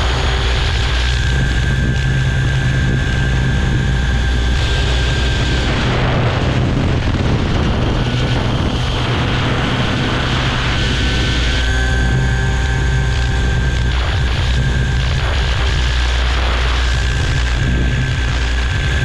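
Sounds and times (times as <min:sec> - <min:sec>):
helicopter rotor beat: 0:00.0 - 0:19.0
high steady whine: 0:00.0 - 0:19.0
wind noise on microphone: 0:00.0 - 0:19.0.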